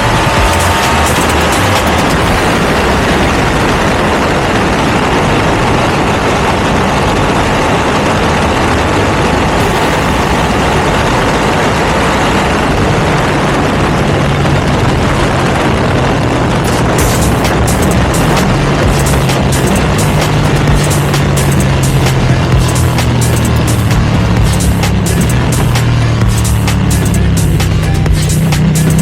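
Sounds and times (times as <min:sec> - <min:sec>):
motorcycle engine droning: 0:00.0 - 0:29.0.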